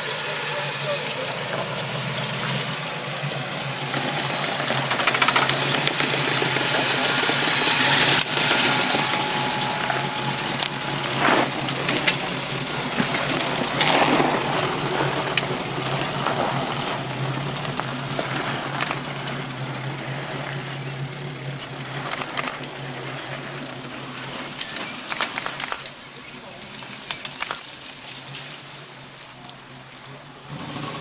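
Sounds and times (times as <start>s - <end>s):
off-road vehicle engine drone: 0.0s - 31.0s
vehicle rattles and knocks: 0.2s - 28.5s, 29.8s - 31.0s.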